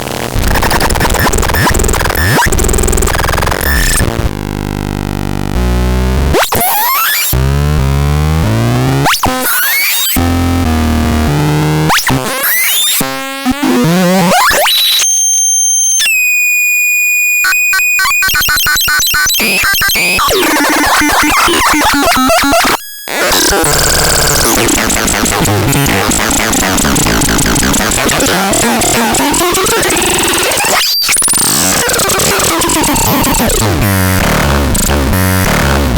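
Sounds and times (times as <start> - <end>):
harsh electronic synthesizer: 0.0 - 15.1, 17.3 - 35.9.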